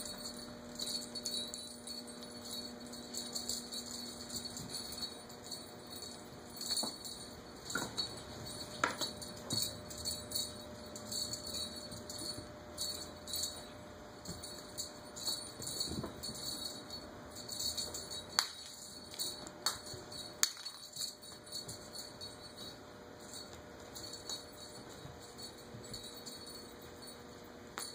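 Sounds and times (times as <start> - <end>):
small bell jingling: 0.0 - 27.9.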